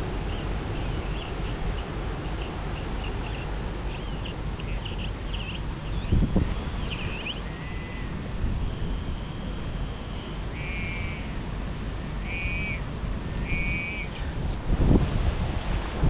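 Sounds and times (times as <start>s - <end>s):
wind buffeting microphone: 0.0s - 9.6s, 11.5s - 16.0s.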